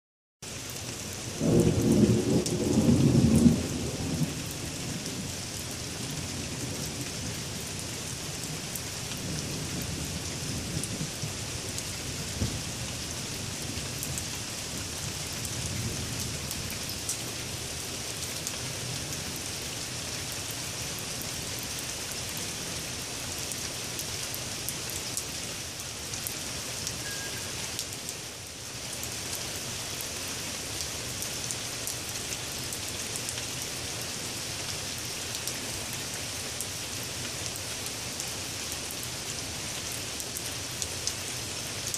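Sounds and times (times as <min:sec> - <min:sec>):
steady rain falling: 0:00.4 - 0:41.9.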